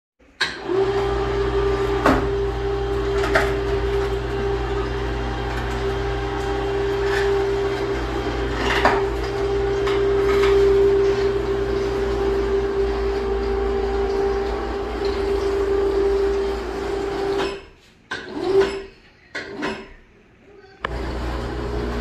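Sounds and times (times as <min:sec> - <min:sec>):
electric motor humming and whining: 0:00.6 - 0:17.4, 0:20.8 - 0:22.0.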